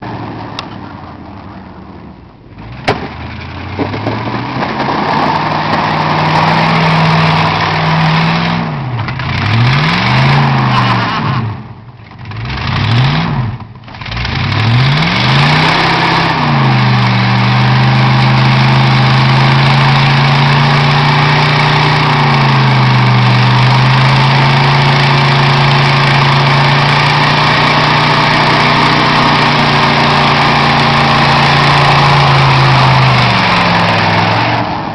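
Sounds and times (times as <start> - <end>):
vehicle engine revving: 0.0 - 34.9.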